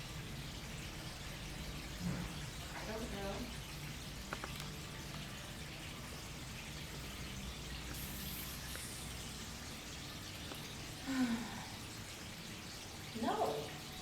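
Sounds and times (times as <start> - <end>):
water fountain splashing: 0.0 - 14.0.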